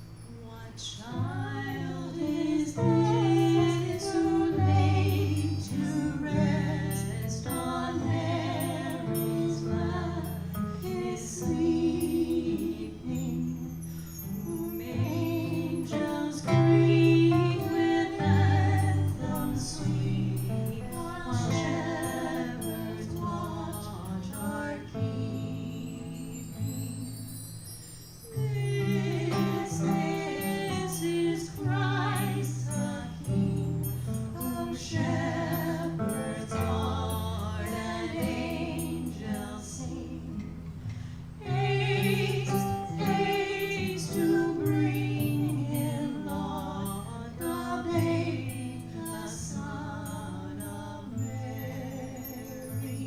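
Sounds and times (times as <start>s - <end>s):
acoustic jazz band with vocals: 0.0s - 27.6s, 28.3s - 53.0s
guitar: 0.0s - 53.0s
percussion: 0.0s - 53.0s.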